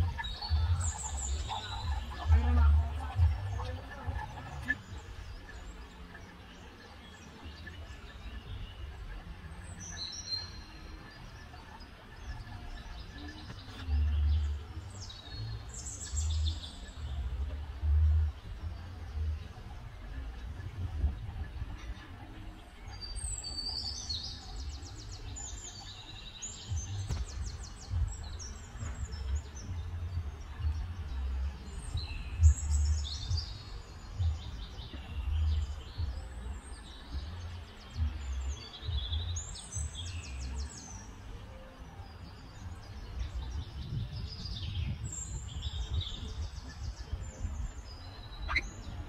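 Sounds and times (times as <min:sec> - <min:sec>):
songbird singing trills: 0:00.0 - 0:49.0.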